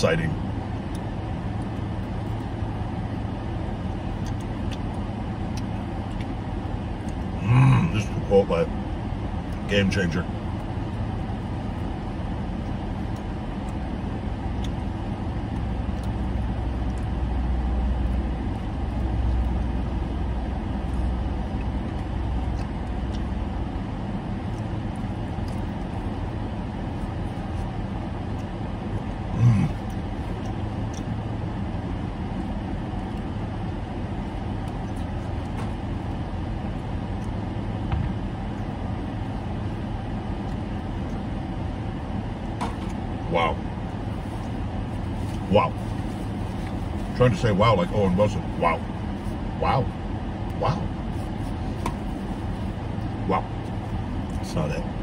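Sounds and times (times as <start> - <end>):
car air conditioning airflow: 0.0 - 55.0
car engine idling: 0.0 - 55.0.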